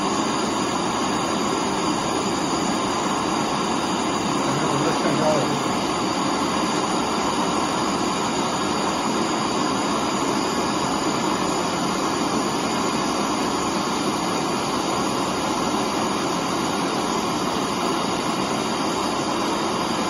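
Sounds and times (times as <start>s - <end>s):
gas torch flame hissing: 0.0s - 20.0s.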